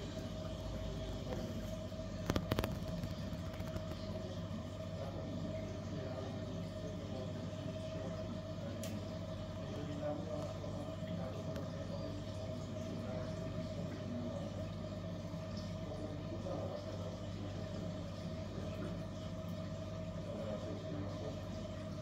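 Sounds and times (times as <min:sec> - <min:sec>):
aquarium pumps humming: 0:00.0 - 0:22.0.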